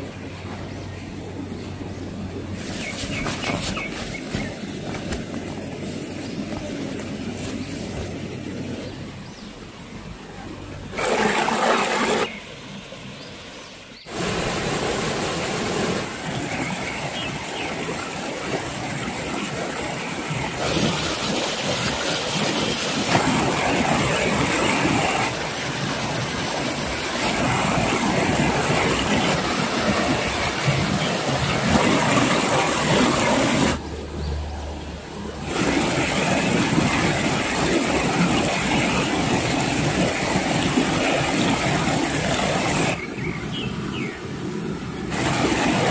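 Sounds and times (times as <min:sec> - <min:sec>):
stream rushing over boulders: 0:02.2 - 0:45.9.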